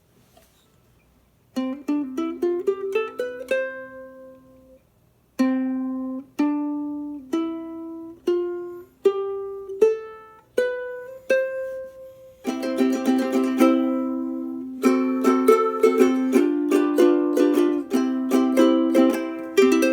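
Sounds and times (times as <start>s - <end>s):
ukulele notes plucked: 1.5s - 4.8s, 5.4s - 19.9s.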